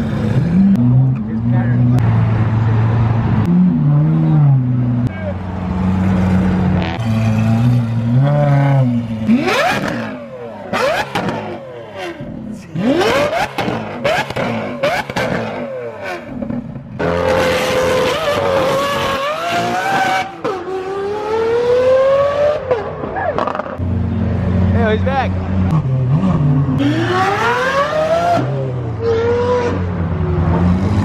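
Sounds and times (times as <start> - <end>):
sports car engine revving: 0.0 - 31.0.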